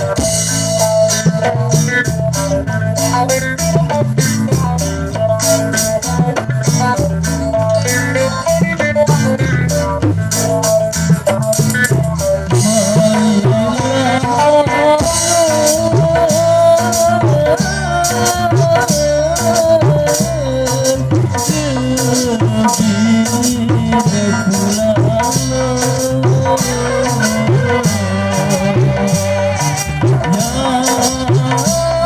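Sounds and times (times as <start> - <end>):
fast drum and percussion beats: 0.0 - 32.0
wavering melody line: 0.0 - 32.0.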